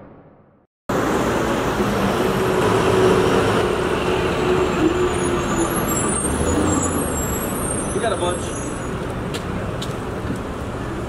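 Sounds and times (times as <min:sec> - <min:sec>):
road noise: 0:00.9 - 0:11.0.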